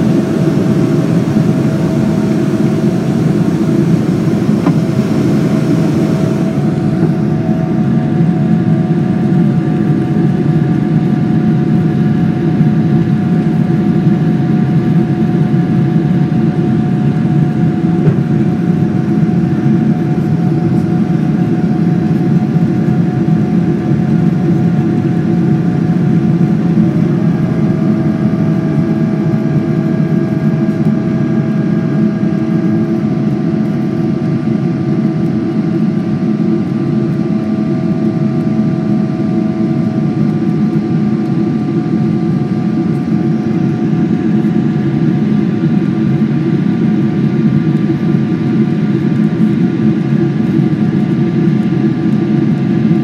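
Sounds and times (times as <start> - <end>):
jet engine roar with whine: 0.0 - 53.0.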